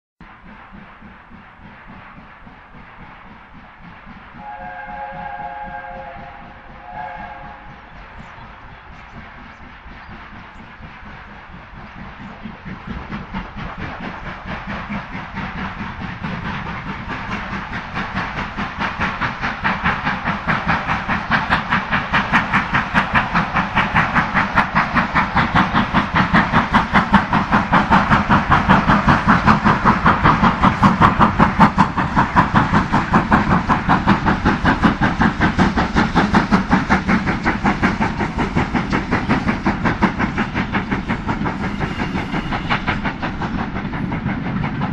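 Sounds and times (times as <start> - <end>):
steam locomotive exhaust beat: 0.2 - 44.9.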